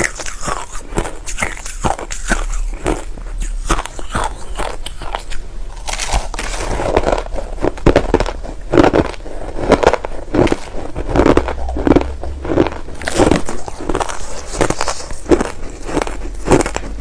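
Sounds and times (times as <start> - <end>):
crushed ice being chewed: 0.0 - 17.0.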